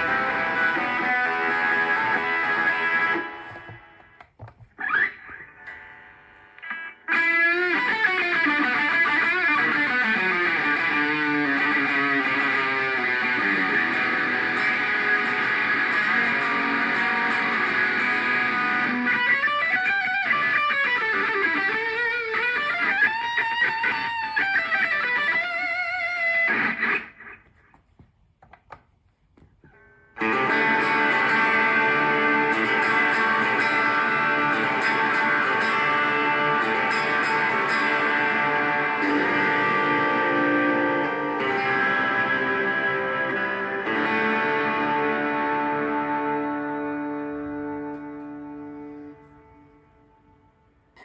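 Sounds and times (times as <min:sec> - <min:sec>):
electric guitar with effects: 0:00.0 - 0:27.8, 0:29.6 - 0:51.0.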